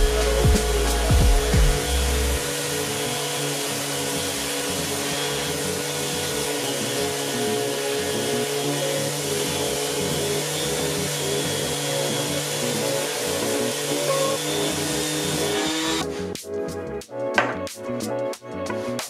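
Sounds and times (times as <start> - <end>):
orbital sander sanding wood: 0.0 - 16.3.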